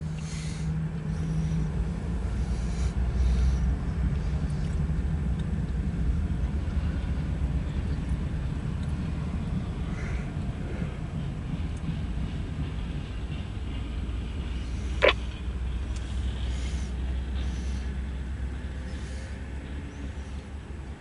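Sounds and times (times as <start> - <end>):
diesel locomotive rumbling: 0.0 - 21.0.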